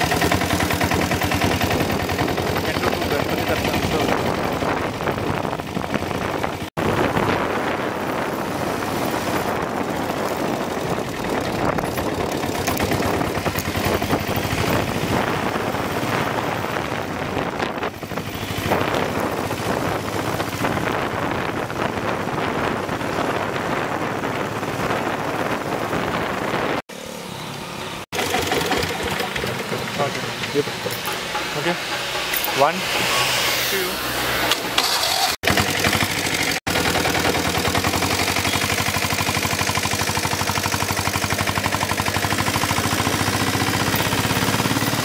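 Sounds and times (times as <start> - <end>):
diesel engine clattering: 0.0 - 6.7, 7.7 - 22.1, 28.1 - 45.0.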